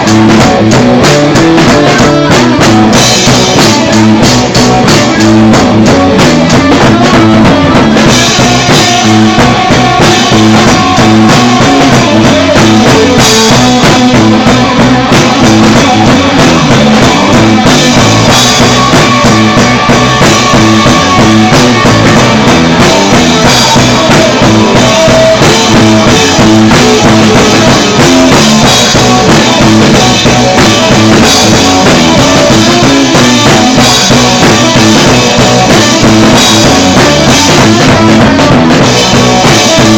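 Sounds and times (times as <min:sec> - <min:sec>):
loud instrumental rock music: 0:00.0 - 0:39.9.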